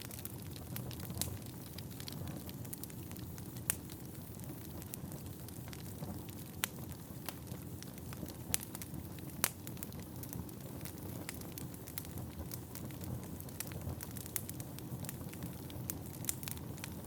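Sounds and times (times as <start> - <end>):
loud fire pops: 0.0 - 17.0
low rumble of flames: 0.0 - 17.0
wood fire crackling: 0.0 - 17.0.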